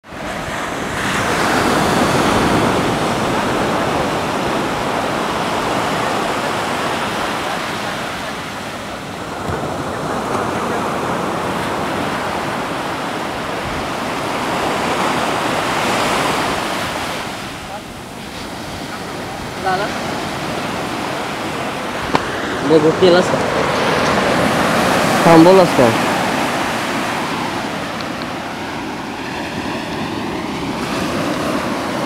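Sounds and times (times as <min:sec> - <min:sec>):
sea surf washing up beach: 0:00.0 - 0:32.0.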